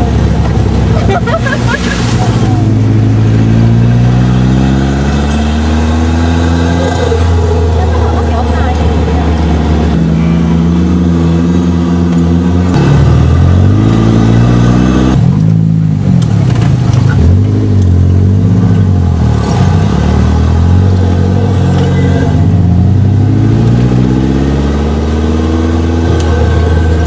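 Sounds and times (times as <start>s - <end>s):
off-road vehicle engine revving: 0.0s - 27.0s.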